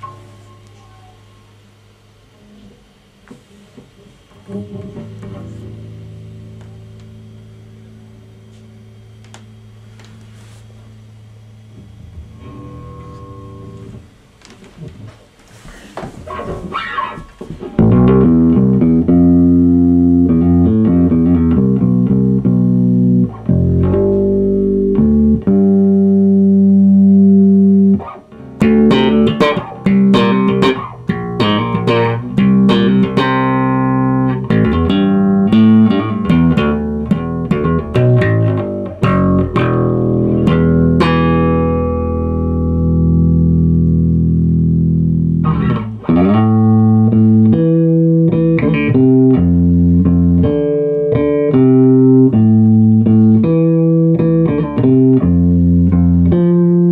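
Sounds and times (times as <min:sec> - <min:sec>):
electric bass plucked notes: 0:04.4 - 0:10.2, 0:10.8 - 0:14.3, 0:16.4 - 0:56.9.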